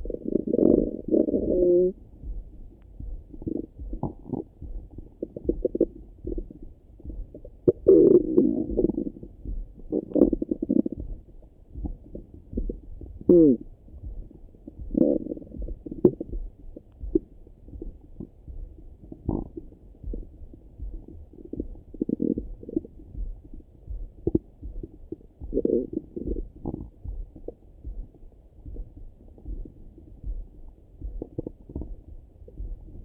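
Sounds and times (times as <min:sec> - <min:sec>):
stomach gurgling: 0:00.0 - 0:02.0, 0:03.2 - 0:23.6, 0:24.2 - 0:33.0.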